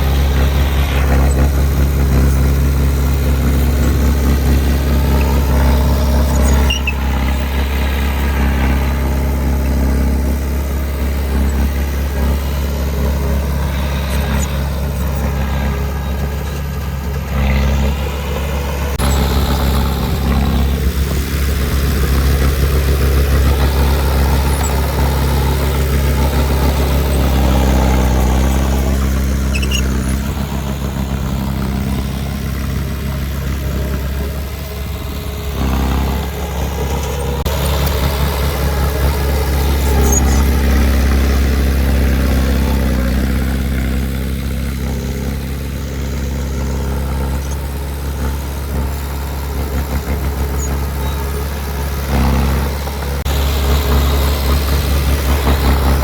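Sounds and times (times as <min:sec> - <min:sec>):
heavy machine engine drone: 0:00.0 - 0:56.0.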